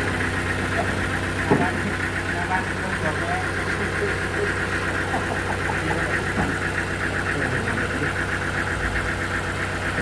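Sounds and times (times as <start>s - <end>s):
sawmill engine pulsing drone: 0.0s - 10.0s.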